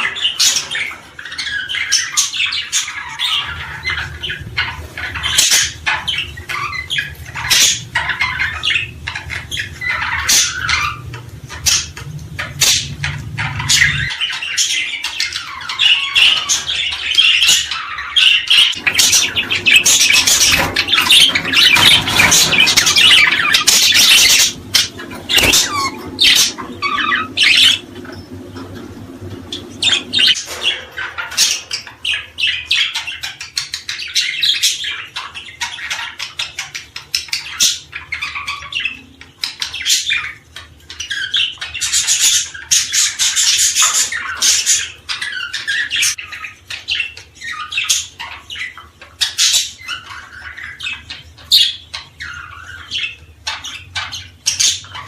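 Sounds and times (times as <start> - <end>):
small birds chirping and squawking: 0.0 - 55.0.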